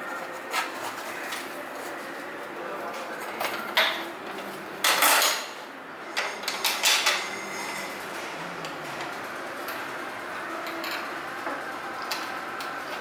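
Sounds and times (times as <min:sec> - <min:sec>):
low workshop background: 0:00.0 - 0:13.0.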